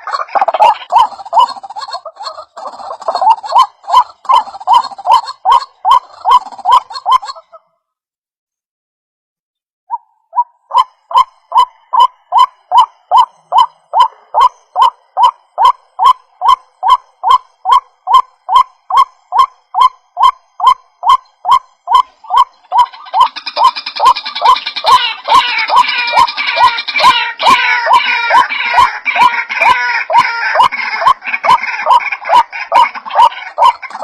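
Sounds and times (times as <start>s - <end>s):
waterhen calls: 0.0s - 7.6s, 9.9s - 34.0s.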